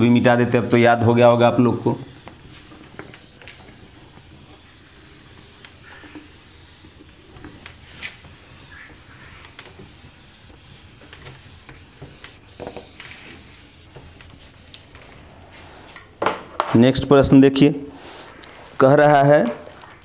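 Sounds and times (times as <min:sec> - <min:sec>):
cricket trill: 0:00.0 - 0:20.0
whiteboard wiping strokes: 0:01.5 - 0:16.2, 0:17.9 - 0:20.0.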